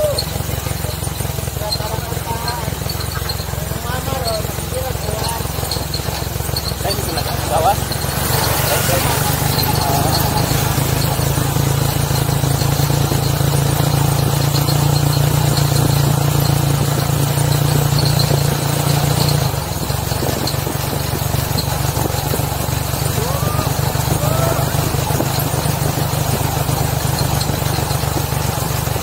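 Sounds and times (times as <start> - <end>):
small engine running steadily: 0.0 - 29.0.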